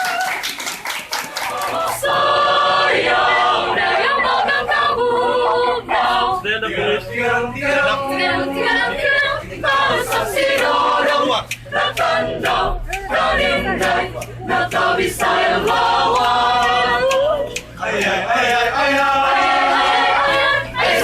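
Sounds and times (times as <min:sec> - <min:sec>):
choir singing a cappella: 0:01.5 - 0:21.0.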